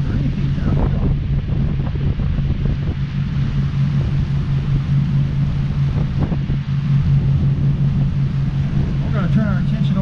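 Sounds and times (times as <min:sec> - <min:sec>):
boat engine droning: 0:00.0 - 0:10.0
wake rushing along hull: 0:00.0 - 0:10.0
wind on microphone: 0:00.0 - 0:10.0.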